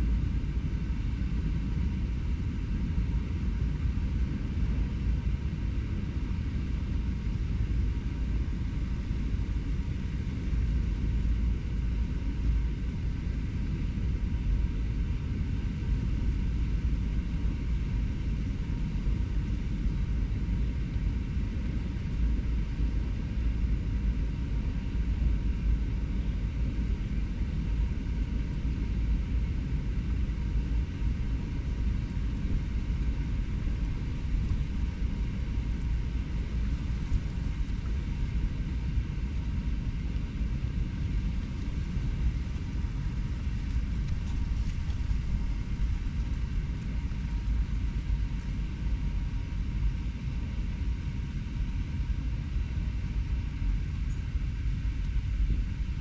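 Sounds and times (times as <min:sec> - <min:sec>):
low urban rumble: 0:00.0 - 0:56.0.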